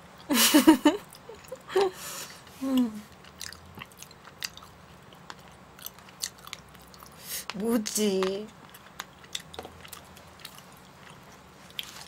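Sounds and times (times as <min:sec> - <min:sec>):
person chewing: 0:01.0 - 0:07.3, 0:08.5 - 0:12.0.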